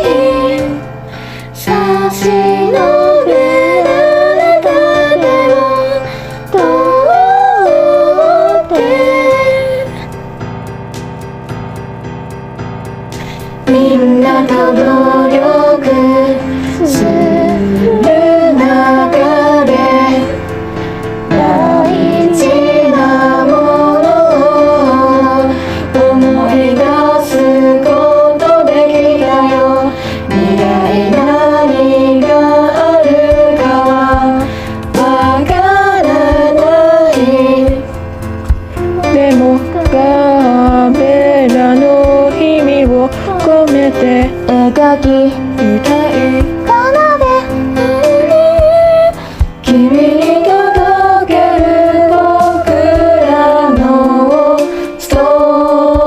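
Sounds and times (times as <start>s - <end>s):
pop song with singing: 0.0s - 10.5s, 13.1s - 56.0s.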